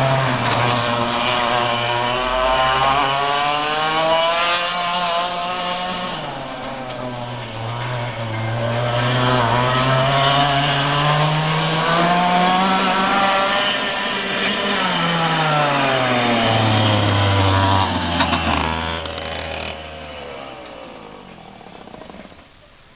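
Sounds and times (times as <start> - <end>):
racing kart engine revving: 0.0 - 22.6.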